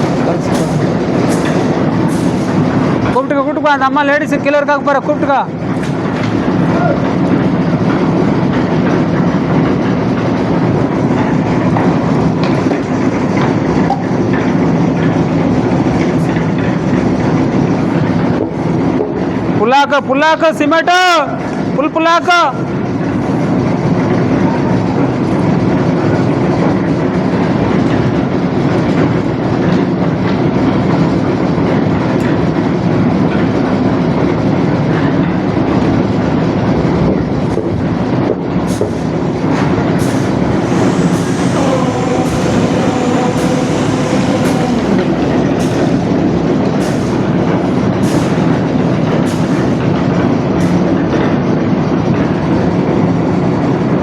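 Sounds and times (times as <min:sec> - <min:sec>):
concrete mixer drum churning: 0:00.0 - 0:20.2, 0:21.4 - 0:54.0.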